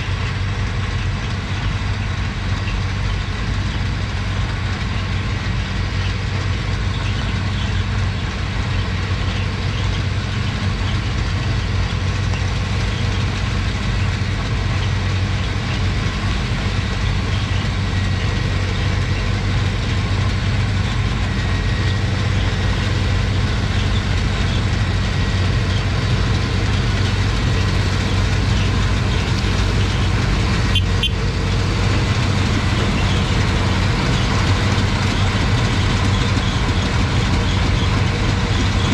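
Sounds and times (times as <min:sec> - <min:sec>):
heavy diesel engines droning: 0:00.0 - 0:38.9.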